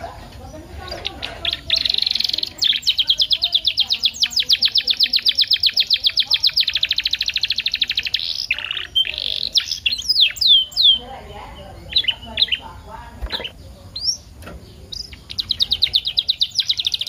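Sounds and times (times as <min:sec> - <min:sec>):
canary singing trill: 0:00.0 - 0:17.0.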